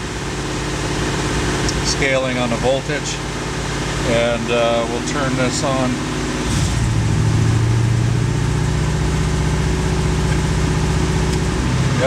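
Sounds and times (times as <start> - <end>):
car engine running: 0.0 - 12.0
engine misfiring: 0.1 - 12.0.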